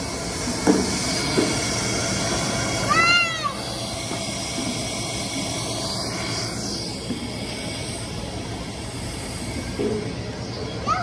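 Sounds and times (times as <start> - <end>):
hissing indoor hall noise: 0.0 - 11.0.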